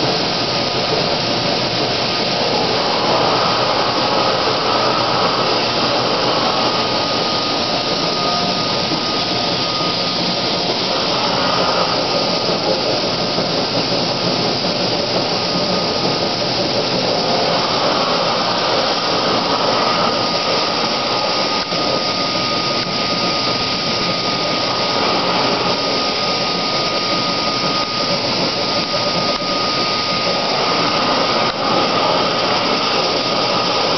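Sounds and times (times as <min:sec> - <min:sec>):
lathe machine noise: 0:00.0 - 0:33.9
thin high whine: 0:00.0 - 0:33.9.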